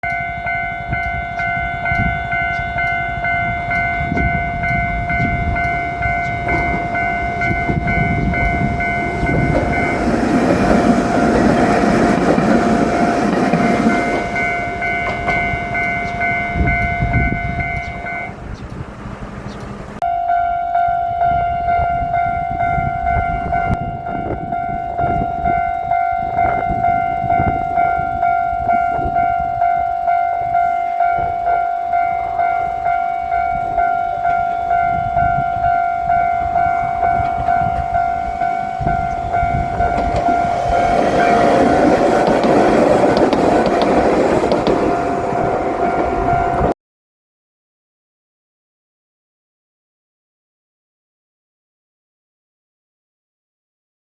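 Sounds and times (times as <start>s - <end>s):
level-crossing warning bell: 0.0s - 18.5s, 20.0s - 46.8s
electric train rumbling and clattering: 0.0s - 46.8s.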